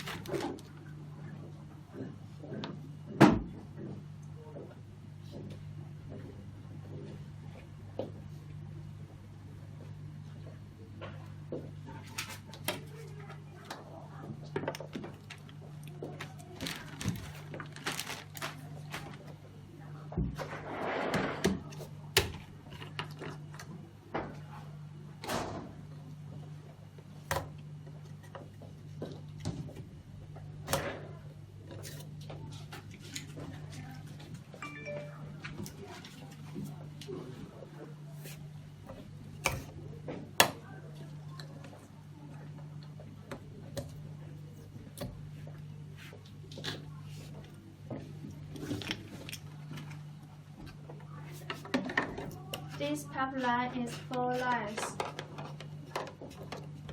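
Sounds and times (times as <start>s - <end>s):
low electrical hum: 0.0s - 56.9s.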